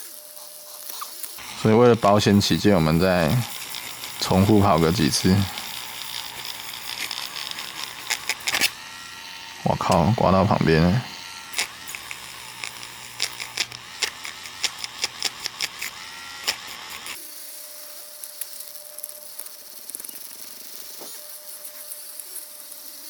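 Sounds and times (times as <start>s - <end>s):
rotary polishing tool whine: 0.0s - 23.0s.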